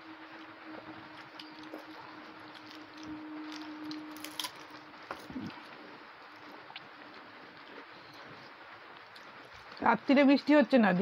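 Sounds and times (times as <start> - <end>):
faint steady hum: 0.0 - 11.0
chewing: 0.4 - 9.8.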